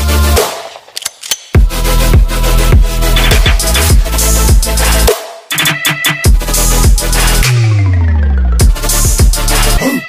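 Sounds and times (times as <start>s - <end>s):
electronic dance music: 1.6s - 10.0s.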